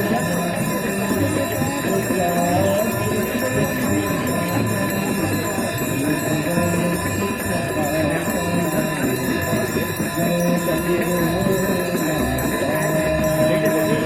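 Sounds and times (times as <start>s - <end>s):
devotional music with chanting: 0.0s - 14.0s
hand bells ringing: 0.0s - 14.0s.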